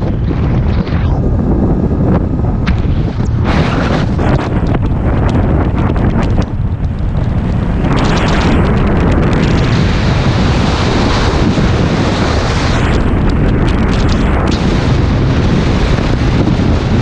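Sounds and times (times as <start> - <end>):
wind buffeting microphone: 0.0 - 17.0
road noise: 1.2 - 17.0.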